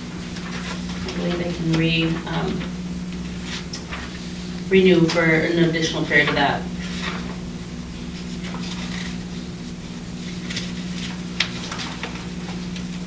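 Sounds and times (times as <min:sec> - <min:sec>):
low electrical hum: 0:00.0 - 0:13.0
paper rustling: 0:00.1 - 0:07.4, 0:08.0 - 0:13.0.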